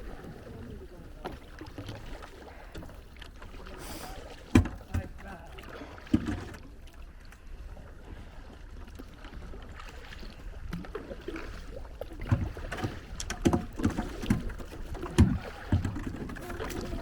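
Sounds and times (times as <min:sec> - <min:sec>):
paddle knocks and splashes: 0:00.0 - 0:07.3, 0:07.9 - 0:17.0
water sloshing against hull: 0:00.0 - 0:17.0.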